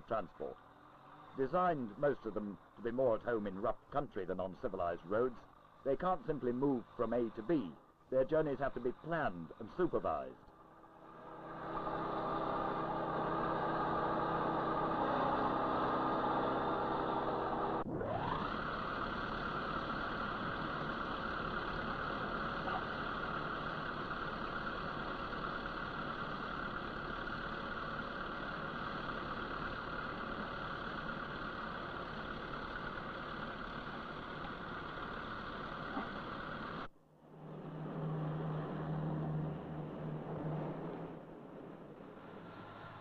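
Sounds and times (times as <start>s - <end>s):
heavy machinery engine running: 0.0s - 43.0s.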